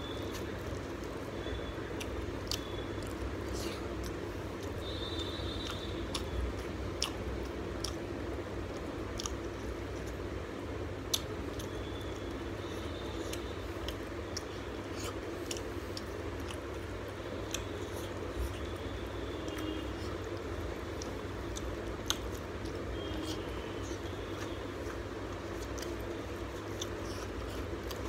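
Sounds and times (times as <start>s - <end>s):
chewing and mouth smacking: 0.0s - 10.4s, 11.0s - 28.0s
steady low hum: 0.0s - 28.0s.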